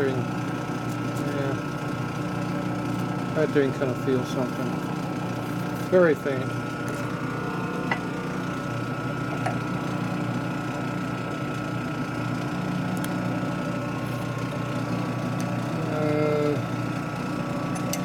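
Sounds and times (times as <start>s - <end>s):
metal lathe humming: 0.0s - 18.0s.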